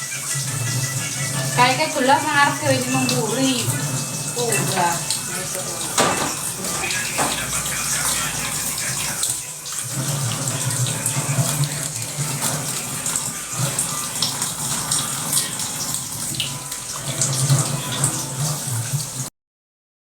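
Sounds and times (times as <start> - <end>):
water running from tap: 0.0 - 19.3.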